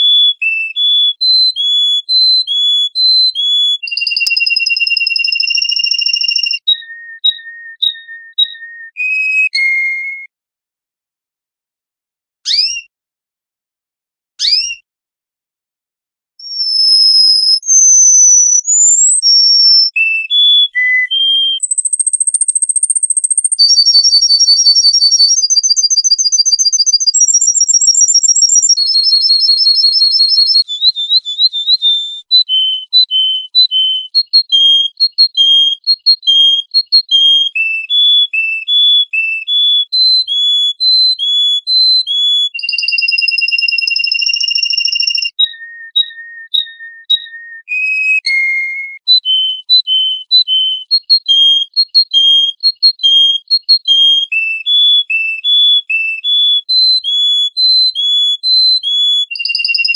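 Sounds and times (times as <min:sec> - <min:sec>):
songbird singing: 0:00.0 - 0:09.0, 0:16.4 - 0:59.9.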